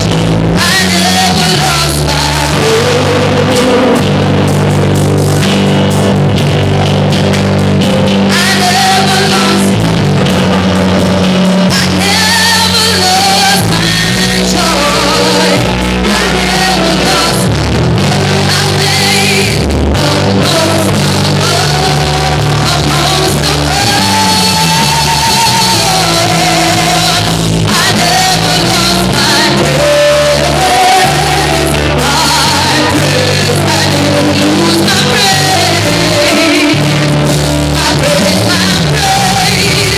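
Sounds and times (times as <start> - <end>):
person singing: 0.0 - 4.6, 7.9 - 39.9
church music with band: 0.0 - 39.9
held bass notes: 0.0 - 39.9.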